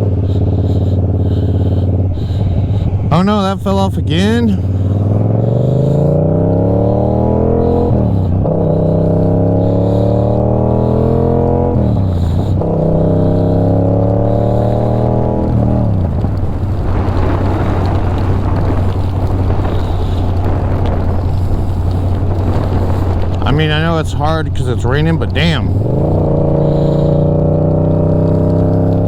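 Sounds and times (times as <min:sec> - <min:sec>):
motorcycle engine accelerating: 0:00.0 - 0:29.0
wind rush on microphone: 0:00.0 - 0:29.0.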